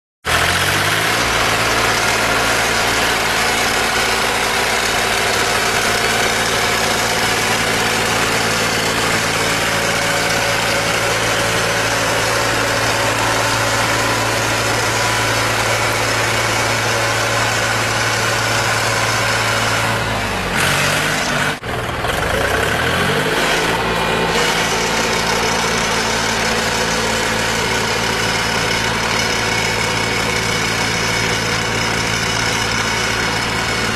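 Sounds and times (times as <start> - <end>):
tractor engine running: 0.2 - 33.9.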